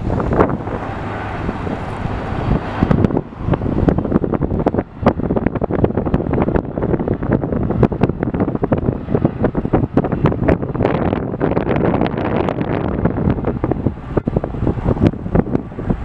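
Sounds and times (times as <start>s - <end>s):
jet engines roaring: 0.0s - 16.0s
wind buffeting microphone: 0.0s - 16.0s.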